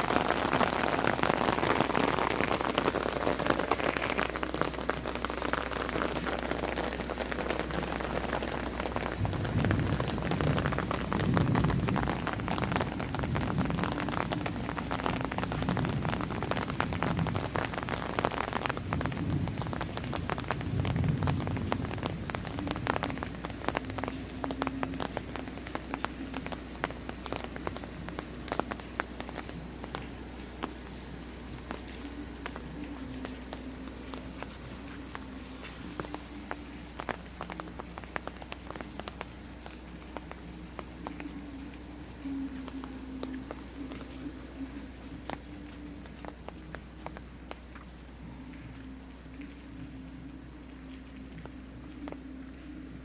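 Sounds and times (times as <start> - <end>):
low rumbling: 0.0 - 53.0
steady rain falling: 0.0 - 53.0.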